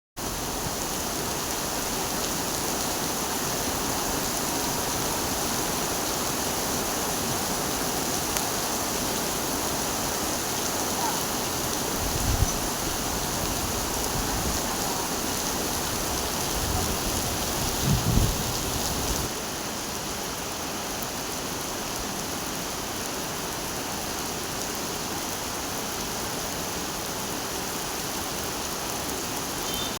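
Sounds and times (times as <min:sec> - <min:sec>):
heavy rain falling: 0:00.2 - 0:30.0.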